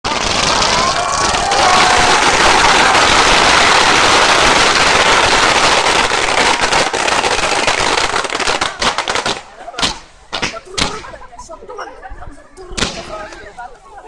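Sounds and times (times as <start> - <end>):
fireworks crackling: 0.0 - 11.5, 12.8 - 13.9.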